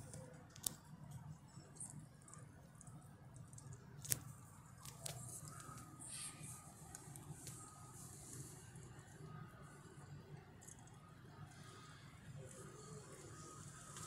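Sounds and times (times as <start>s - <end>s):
faint handling clicks and rustles: 0.0s - 14.0s
low steady hum: 0.0s - 14.0s.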